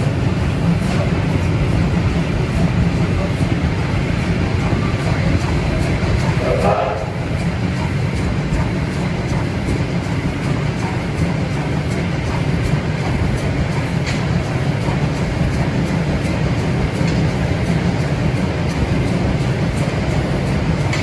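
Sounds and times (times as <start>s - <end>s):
train rumble: 0.0s - 21.0s
wheels clicking on track: 0.0s - 21.0s.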